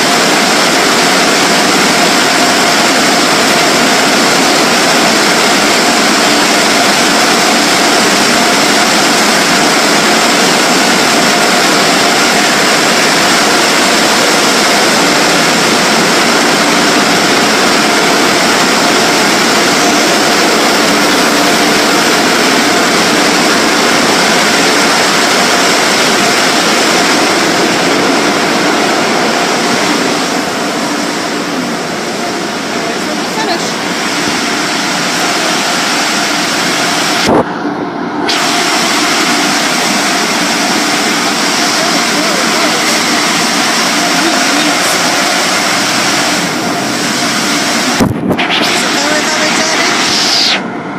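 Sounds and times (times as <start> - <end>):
air dryer blowers rushing: 0.0 - 50.9.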